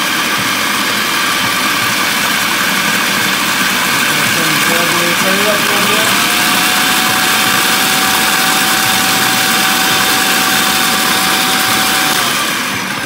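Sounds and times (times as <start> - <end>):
food processor motor whirring: 0.0 - 13.0.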